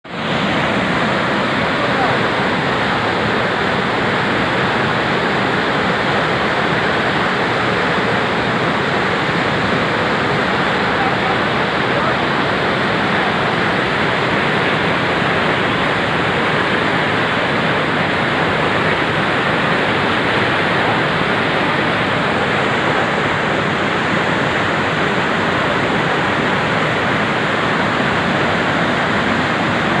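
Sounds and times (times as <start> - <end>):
river rushing: 0.1 - 30.0.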